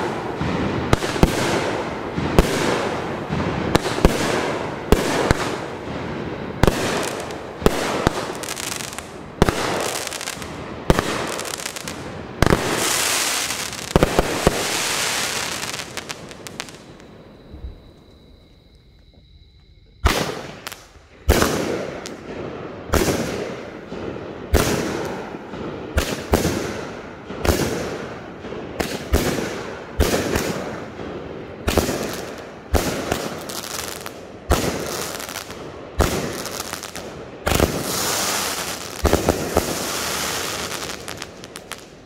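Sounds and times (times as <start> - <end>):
firework crackling: 0.0 - 18.2, 20.0 - 42.0.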